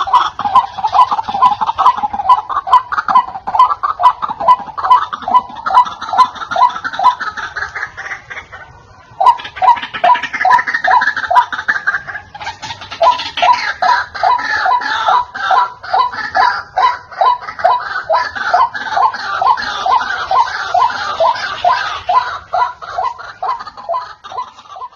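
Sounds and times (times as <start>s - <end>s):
waterhen harsh calls: 0.0s - 24.9s.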